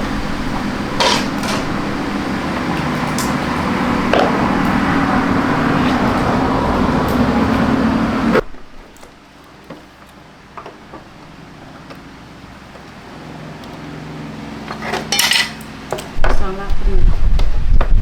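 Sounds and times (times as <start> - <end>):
scooter engine running: 0.0 - 16.4.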